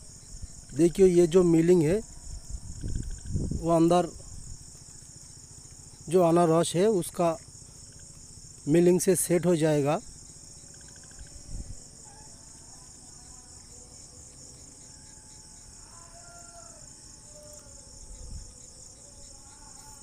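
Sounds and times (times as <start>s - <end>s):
insects chirping chorus: 0.0s - 20.0s.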